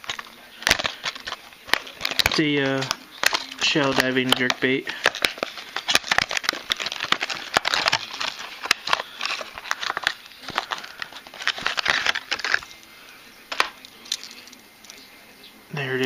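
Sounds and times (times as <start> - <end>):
plastic box clicks and rustles: 0.0 - 12.9, 13.5 - 15.0.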